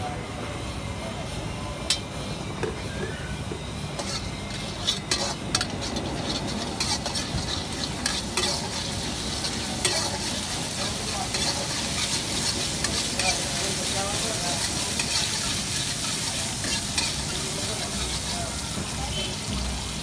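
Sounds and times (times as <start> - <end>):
oil sizzling in a wok: 0.6 - 20.0
ladle scraping a wok: 2.7 - 19.3.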